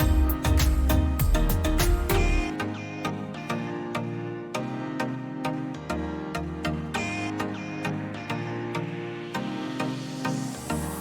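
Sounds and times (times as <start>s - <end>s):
background music with beat: 0.0s - 3.8s, 5.9s - 11.0s.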